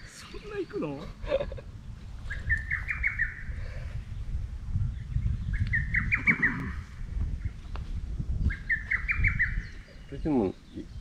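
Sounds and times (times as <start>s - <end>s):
songbird chirping: 0.0s - 11.0s
wind rumble on microphone: 0.0s - 11.0s.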